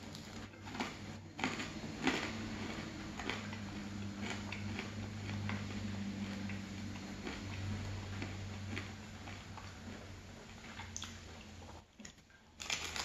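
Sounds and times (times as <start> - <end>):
low hum: 0.0 - 11.8
chewing soggy toast: 0.0 - 13.0.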